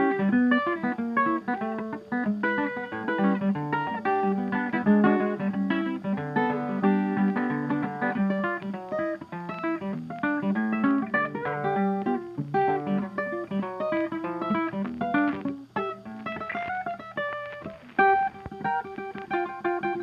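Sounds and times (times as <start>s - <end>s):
acoustic guitar picking: 0.0s - 20.0s.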